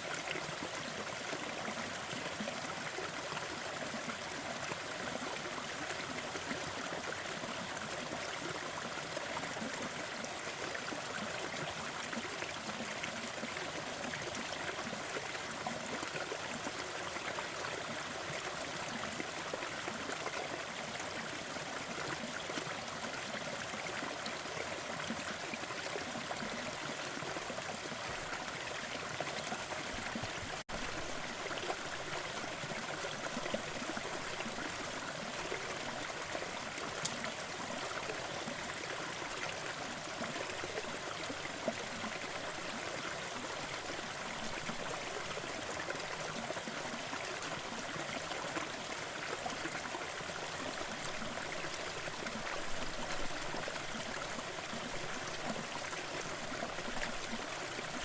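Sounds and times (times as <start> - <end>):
waterfall running water: 0.0 - 58.0.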